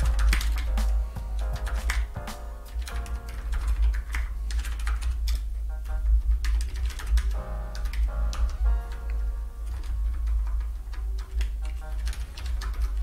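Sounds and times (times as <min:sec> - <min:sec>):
background music: 0:00.0 - 0:13.0
computer keyboard typing: 0:00.0 - 0:13.0.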